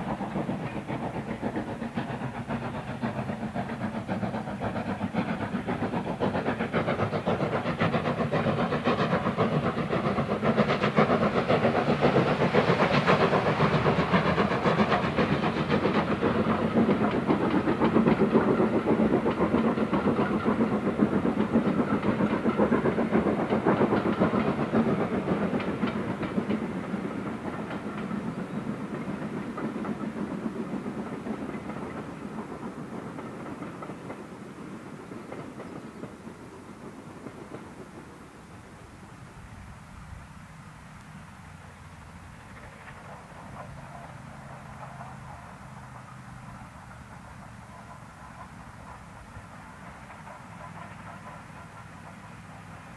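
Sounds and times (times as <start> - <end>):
coach wheels clickety-clack: 0.0 - 52.9
steam locomotive exhaust beating: 0.0 - 52.9.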